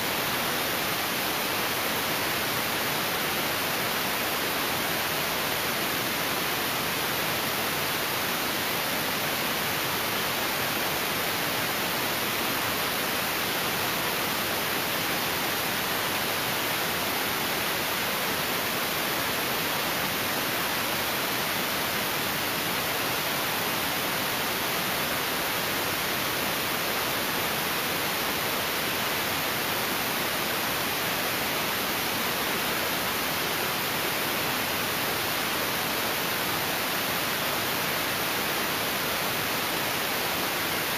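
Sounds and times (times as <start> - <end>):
steady static hiss: 0.0 - 40.9.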